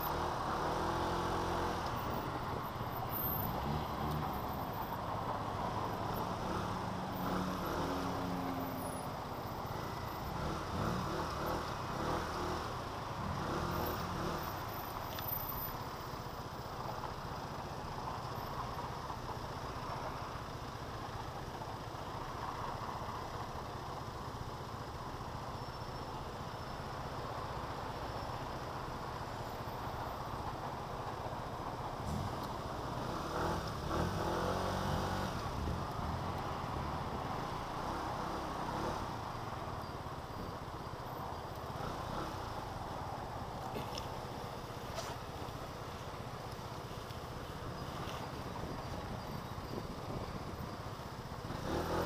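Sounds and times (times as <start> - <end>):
road noise: 0.0 - 52.0.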